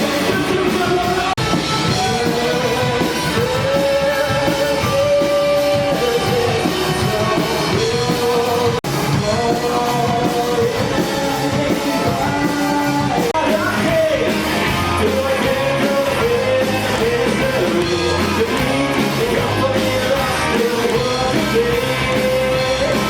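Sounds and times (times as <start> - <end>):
live rock band playing: 0.0 - 23.0
singer holding long notes: 0.0 - 23.0.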